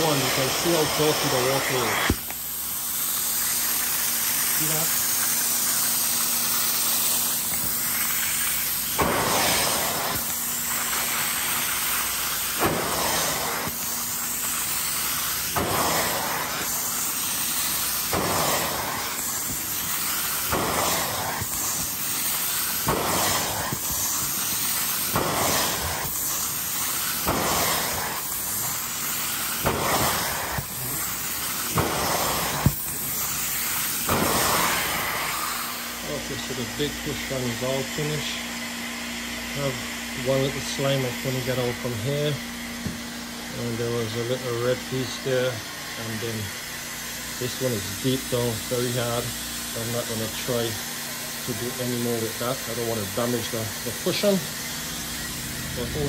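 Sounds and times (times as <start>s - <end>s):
upholstery cleaner suction hiss: 0.0s - 56.0s.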